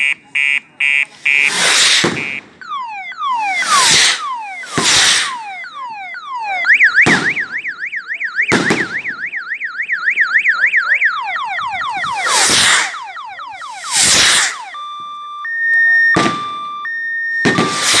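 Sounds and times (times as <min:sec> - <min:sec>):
electronic siren wailing: 0:00.0 - 0:18.0
sharp bangs: 0:01.1 - 0:15.1, 0:16.1 - 0:18.0.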